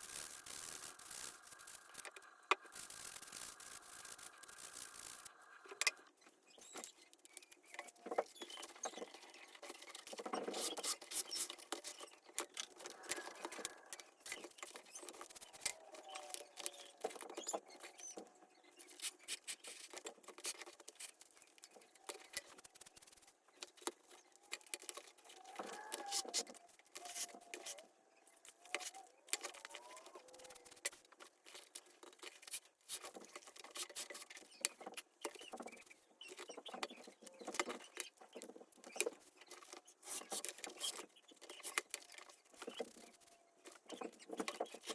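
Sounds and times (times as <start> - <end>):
scratching and rubbing leather glove: 0.0 - 5.6, 6.6 - 44.9.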